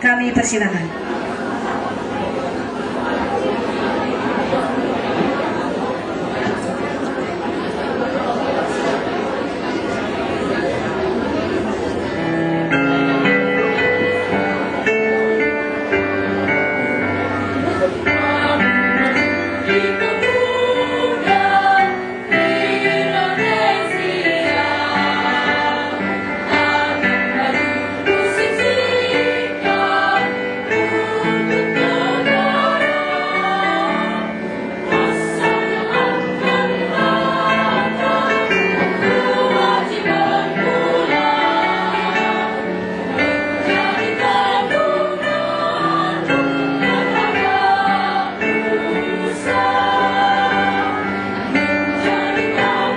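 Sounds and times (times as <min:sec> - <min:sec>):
choir singing in harmony: 0:01.2 - 0:52.9.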